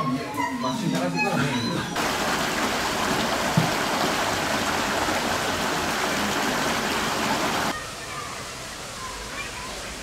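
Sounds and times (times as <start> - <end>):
running water in pool: 2.0 - 10.0.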